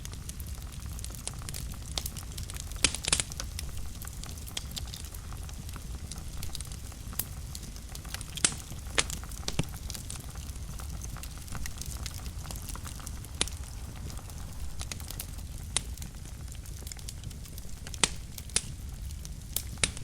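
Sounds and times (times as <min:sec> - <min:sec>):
fire popping: 0:00.0 - 0:20.0
low rumble of flames: 0:00.0 - 0:20.0
wood fire crackling: 0:00.0 - 0:20.0.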